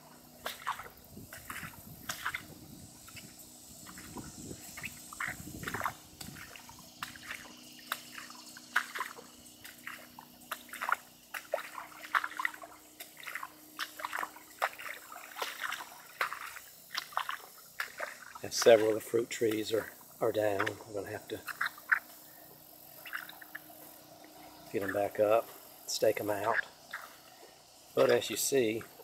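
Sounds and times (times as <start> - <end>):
footsteps splashing through water: 0.4 - 22.2, 22.9 - 25.4, 26.4 - 27.4.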